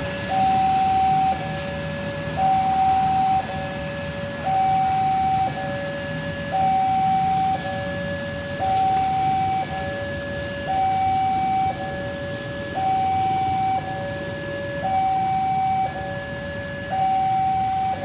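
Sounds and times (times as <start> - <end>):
level-crossing two-tone alarm: 0.0 - 18.0
traffic rumble: 0.0 - 18.0.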